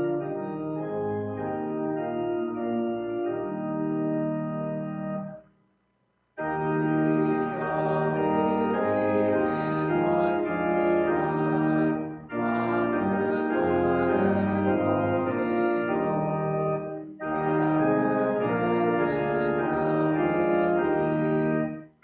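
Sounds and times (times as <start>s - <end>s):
organ playing a hymn: 0.0s - 5.4s, 6.4s - 22.0s.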